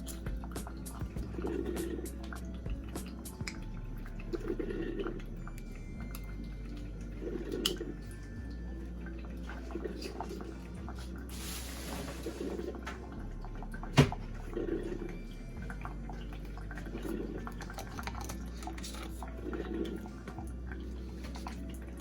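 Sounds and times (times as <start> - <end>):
coffee maker water gurgling: 0.0 - 22.0.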